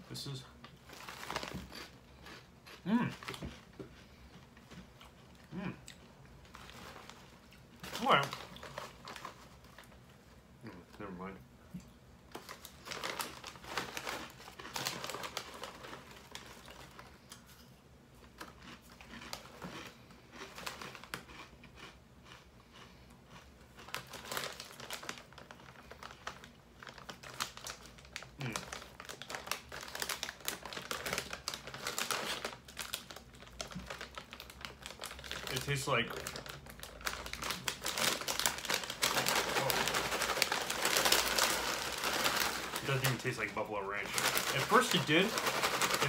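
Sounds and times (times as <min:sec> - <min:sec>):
foil snack bag crinkling: 0:00.2 - 0:02.4, 0:05.9 - 0:10.1, 0:12.3 - 0:17.5, 0:18.2 - 0:22.4, 0:23.7 - 0:46.0
crunchy snacks being chewed: 0:00.8 - 0:10.0, 0:12.4 - 0:17.6, 0:18.2 - 0:46.0.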